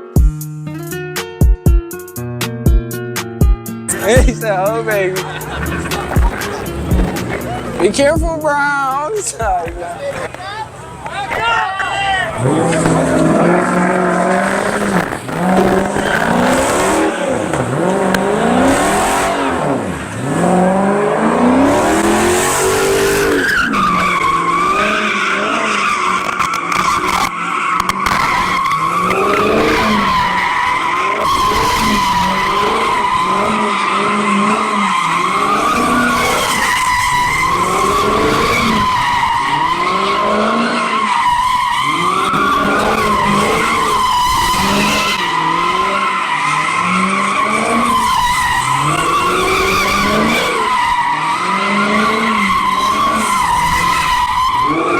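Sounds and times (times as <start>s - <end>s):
car engine revving: 3.9s - 54.9s
tyres squealing: 3.9s - 54.9s.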